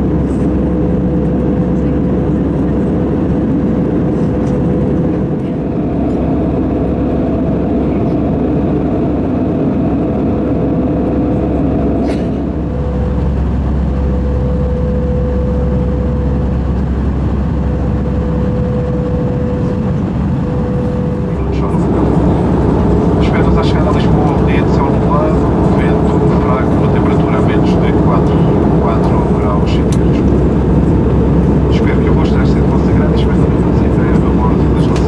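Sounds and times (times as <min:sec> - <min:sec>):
aircraft cabin engine rumble: 0:00.0 - 0:35.0
steady hum: 0:00.0 - 0:35.0.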